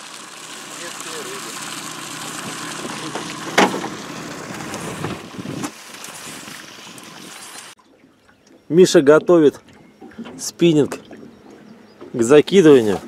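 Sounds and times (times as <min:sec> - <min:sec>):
wind and water rushing: 0:00.0 - 0:13.0.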